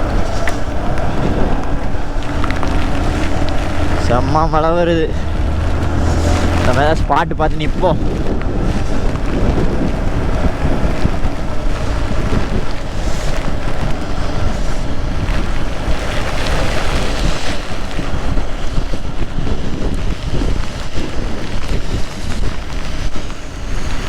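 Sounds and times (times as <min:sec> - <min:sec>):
heavy rain: 0:00.0 - 0:24.0
motorcycle engine: 0:00.0 - 0:24.0
wind buffeting microphone: 0:00.0 - 0:24.0.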